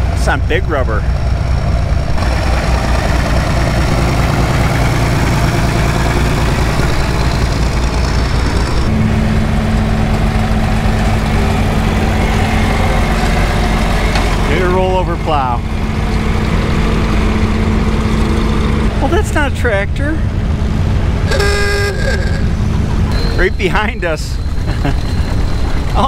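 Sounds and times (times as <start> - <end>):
tractor engines running: 0.0 - 26.0.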